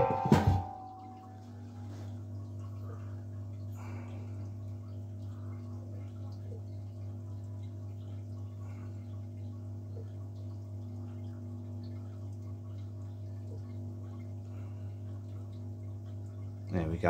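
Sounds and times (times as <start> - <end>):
low electrical hum: 0.0 - 17.0
liquid ticks and drips: 0.6 - 17.0.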